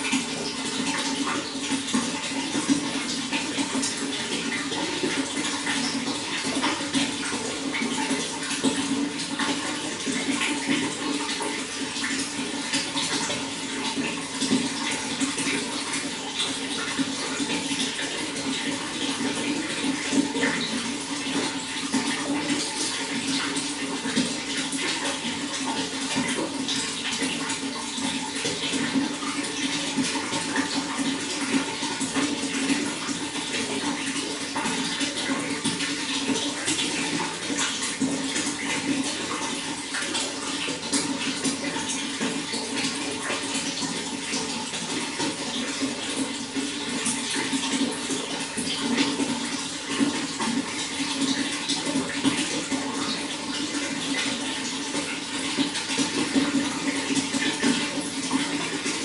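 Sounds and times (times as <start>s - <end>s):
running water flowing: 0.0s - 59.0s.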